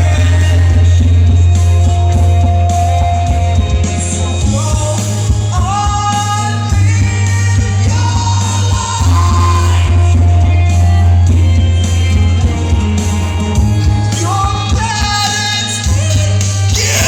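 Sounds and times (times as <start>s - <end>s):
loud live rock music: 0.0s - 17.0s.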